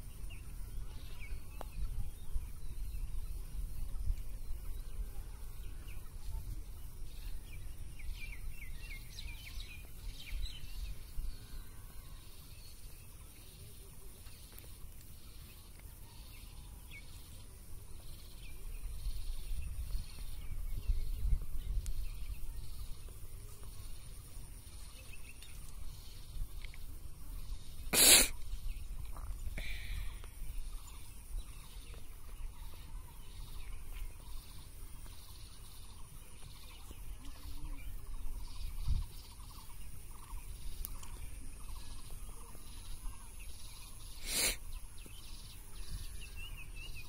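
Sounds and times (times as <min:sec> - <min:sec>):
wind rumbling on microphone: 0:00.0 - 0:11.8, 0:17.2 - 0:47.0
small birds chirping: 0:00.0 - 0:47.0.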